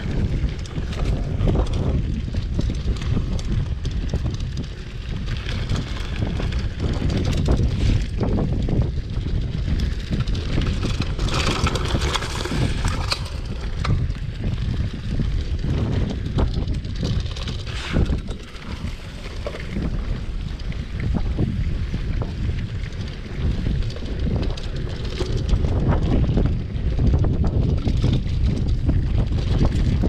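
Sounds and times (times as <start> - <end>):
bike knocks and rattles: 0.0 - 30.0
tyres rumbling on dirt: 0.0 - 30.0
wind buffeting microphone: 0.0 - 30.0.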